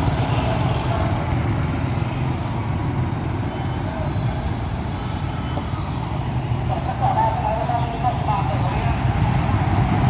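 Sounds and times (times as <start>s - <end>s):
vehicle engines rumbling: 0.0s - 10.0s.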